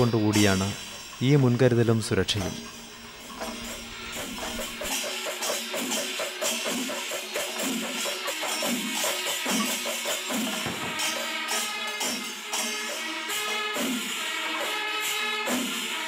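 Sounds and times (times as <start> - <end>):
percussion-led music: 0.0 - 16.0.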